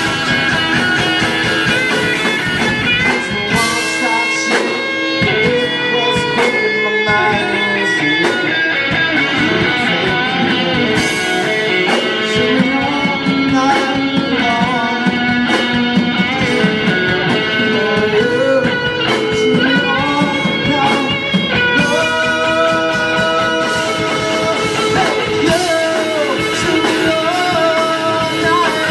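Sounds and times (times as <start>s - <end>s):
rock music on guitars: 0.0s - 28.9s.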